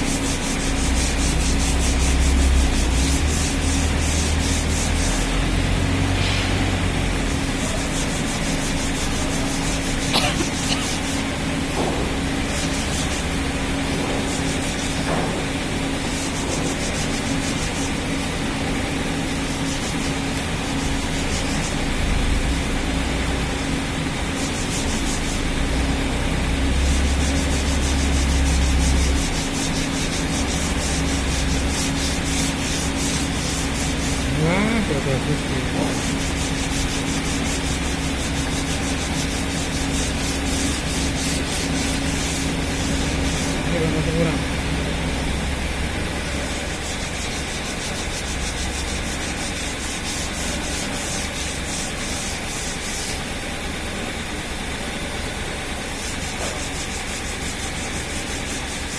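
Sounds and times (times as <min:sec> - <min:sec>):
rubbing on hardwood decking: 0:00.0 - 0:06.0, 0:06.6 - 0:22.5, 0:24.3 - 0:44.4, 0:46.2 - 0:53.3, 0:55.9 - 0:58.9
steady machine hum: 0:00.0 - 0:58.9.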